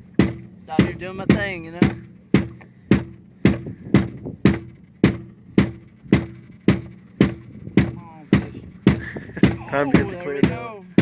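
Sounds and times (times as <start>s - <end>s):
steady drum beat: 0.0s - 11.0s
sustained bass line: 0.0s - 11.0s.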